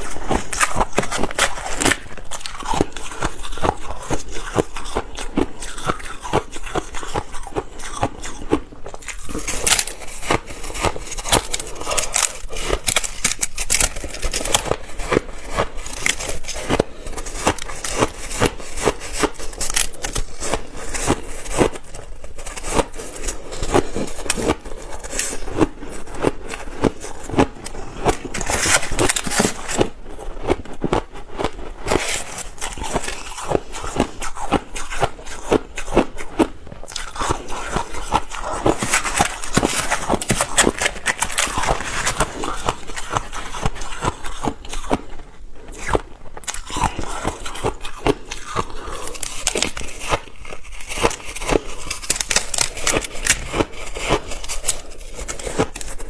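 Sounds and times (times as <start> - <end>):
ice being chewed crunching: 0.0 - 56.0.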